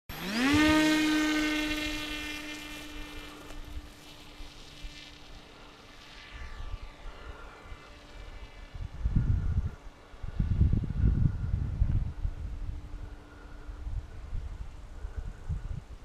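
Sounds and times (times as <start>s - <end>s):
electric motor and propeller whine: 0.0s - 16.0s.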